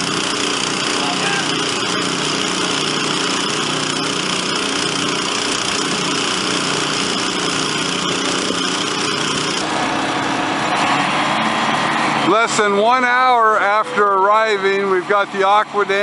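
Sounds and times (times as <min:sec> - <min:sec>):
small pump engines running: 0:00.0 - 0:16.0.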